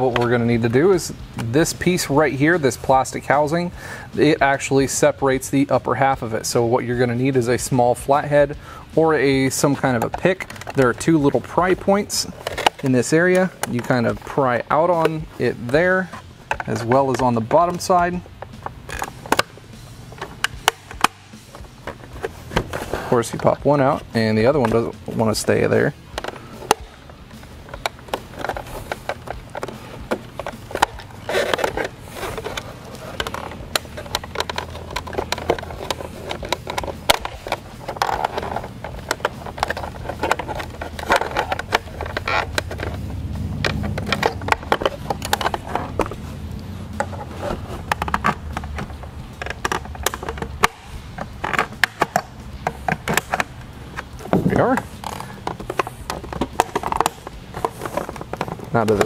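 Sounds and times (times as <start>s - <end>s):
pick prying plastic housing: 0.0s - 0.6s, 9.2s - 59.0s.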